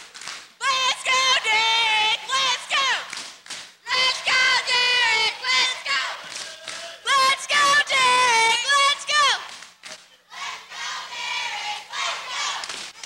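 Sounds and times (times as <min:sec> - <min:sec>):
young voices chanting sing-song: 0:00.6 - 0:03.1, 0:03.7 - 0:13.0.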